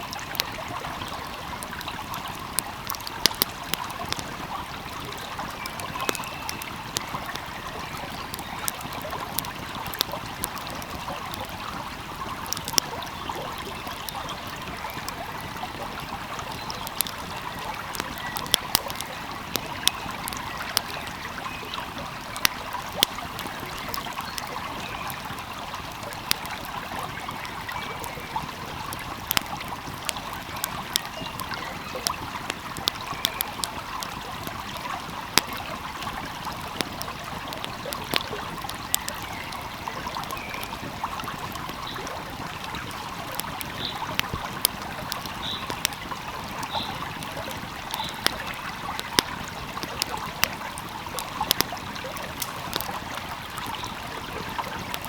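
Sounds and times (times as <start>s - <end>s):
flowing stream: 0.0s - 55.0s
wood fire crackling: 0.0s - 55.0s.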